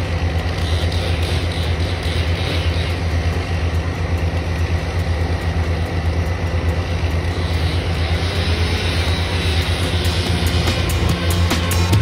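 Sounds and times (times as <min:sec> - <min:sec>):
heavy equipment engine idling: 0:00.0 - 0:12.0.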